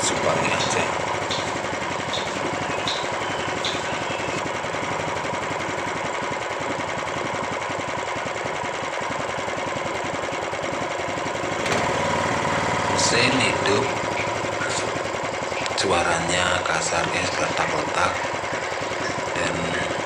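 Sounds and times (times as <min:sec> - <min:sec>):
engine running with rattling knock: 0:00.0 - 0:20.0.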